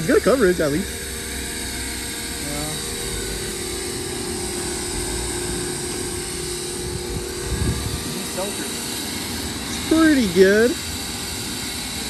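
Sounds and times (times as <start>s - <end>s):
foam cannon spraying hiss: 0.0s - 12.0s
pressure washer motor hum: 0.0s - 12.0s.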